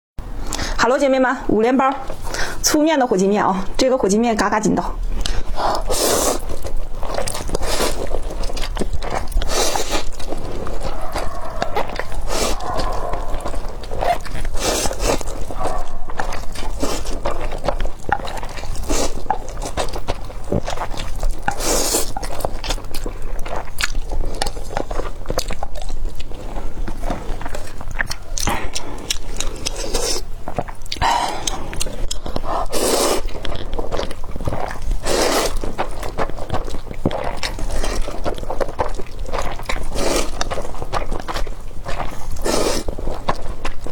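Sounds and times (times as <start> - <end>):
person chewing and eating: 1.8 - 2.8, 4.8 - 43.9.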